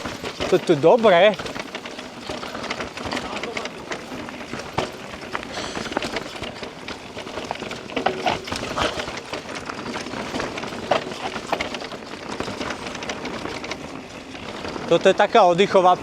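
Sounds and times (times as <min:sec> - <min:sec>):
bike knocks and rattles: 0:00.0 - 0:16.0
bike tyres crunching on dirt: 0:00.0 - 0:16.0.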